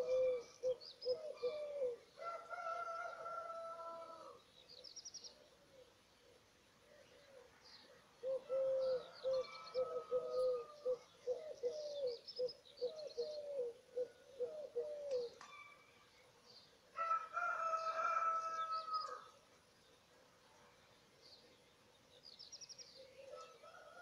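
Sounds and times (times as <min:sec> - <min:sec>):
birds calling and singing: 0:00.0 - 0:02.8, 0:04.2 - 0:16.9, 0:17.6 - 0:24.0.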